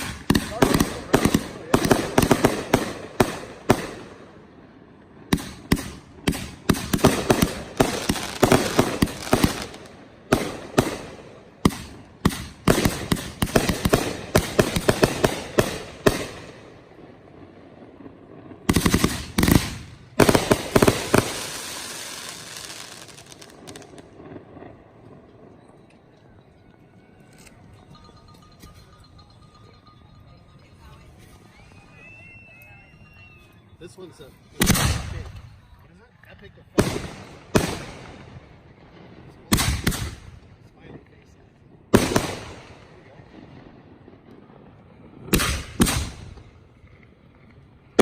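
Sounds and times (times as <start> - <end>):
fireworks bursting and crackling: 0.0 - 29.3, 31.0 - 48.0.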